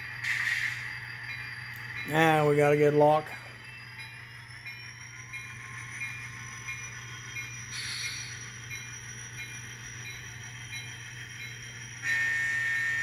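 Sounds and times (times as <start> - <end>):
model locomotive engine hum and whine: 0.0 - 13.0.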